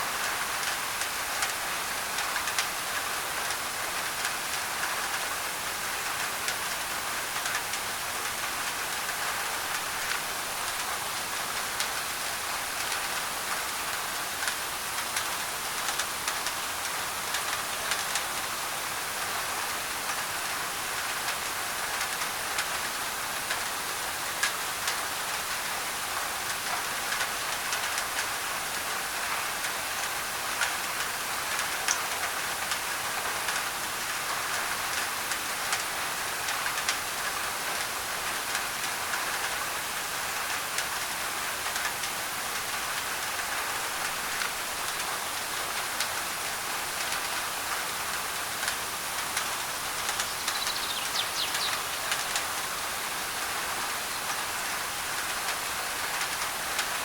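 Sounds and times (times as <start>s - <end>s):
rain on a tin roof: 0.0s - 57.0s
white noise: 0.0s - 57.0s.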